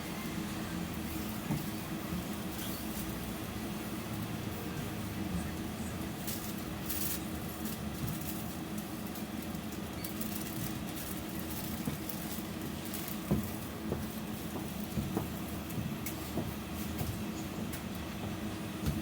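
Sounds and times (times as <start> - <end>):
tram rumble and hum: 0.0 - 19.0.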